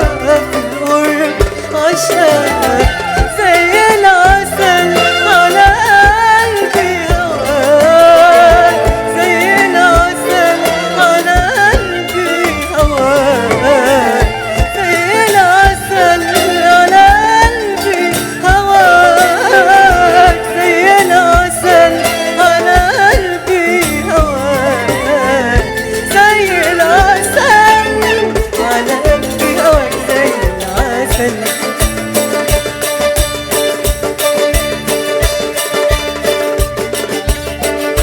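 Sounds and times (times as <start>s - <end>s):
ornamented melody: 0.0s - 38.0s
steady drum beat: 0.0s - 38.0s.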